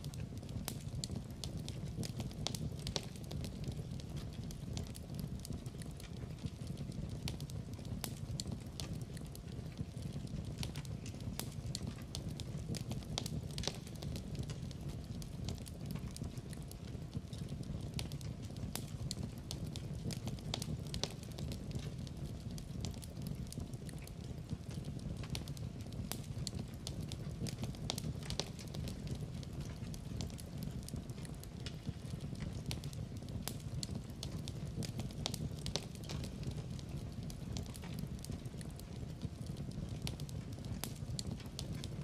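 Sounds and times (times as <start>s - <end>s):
low rumble of flames: 0.0s - 42.0s
sharp snaps of fire: 0.0s - 42.0s
wood fire crackling: 0.0s - 42.0s.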